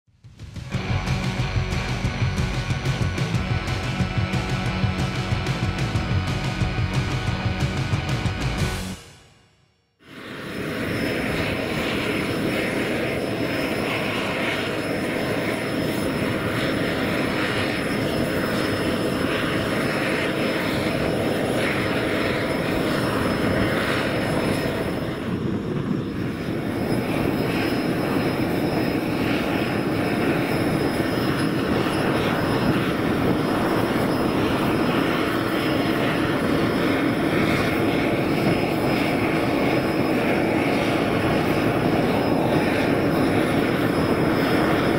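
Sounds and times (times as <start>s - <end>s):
aircraft engines running: 0.1s - 9.3s, 10.0s - 44.9s.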